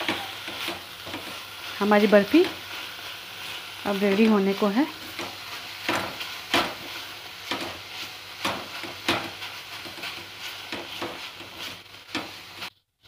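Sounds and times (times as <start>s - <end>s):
spatula scraping a pan: 0.0s - 12.8s
steady sizzle: 0.0s - 12.9s.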